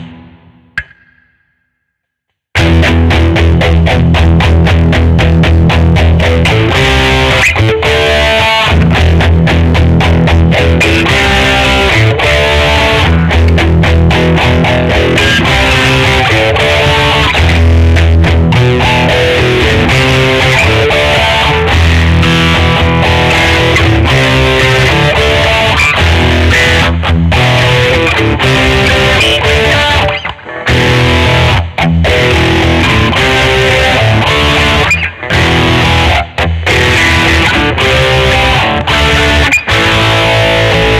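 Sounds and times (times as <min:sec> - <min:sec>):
distorted electric guitar riffing: 0:00.0 - 0:01.1, 0:02.6 - 0:40.9.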